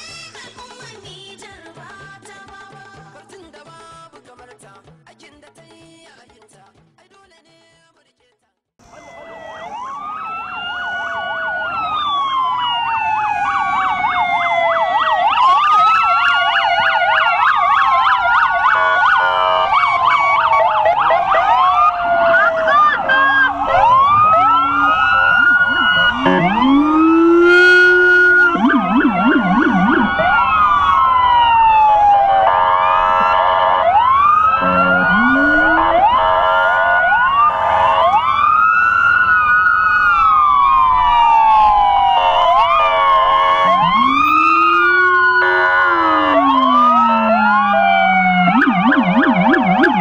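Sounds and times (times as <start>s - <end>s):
police sirens wailing and yelping: 8.8s - 50.0s.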